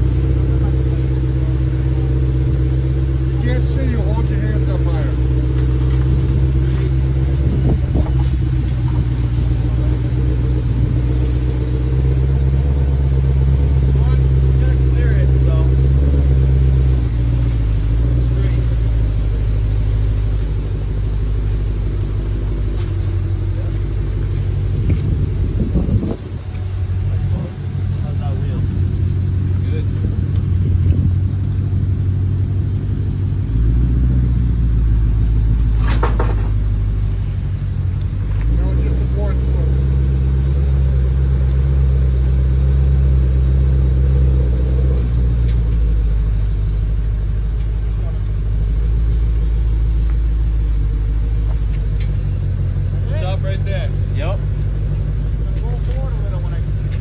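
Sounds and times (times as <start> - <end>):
car engine running at low revs: 0.0 - 57.0.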